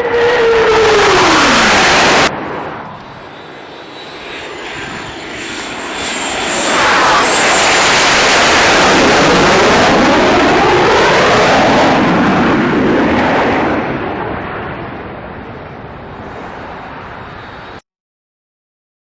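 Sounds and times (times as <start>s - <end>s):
aircraft flying low overhead: 0.0s - 17.8s.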